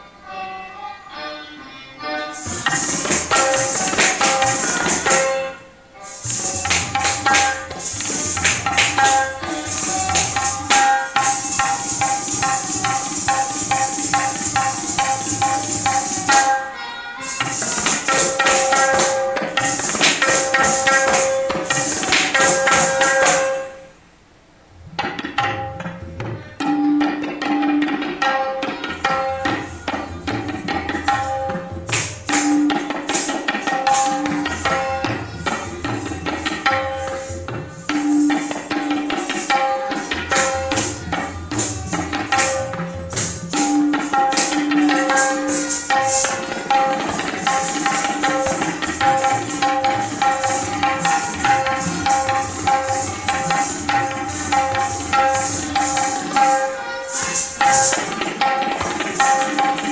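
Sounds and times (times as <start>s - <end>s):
tabla strokes: 2.3s - 24.0s, 24.8s - 59.9s.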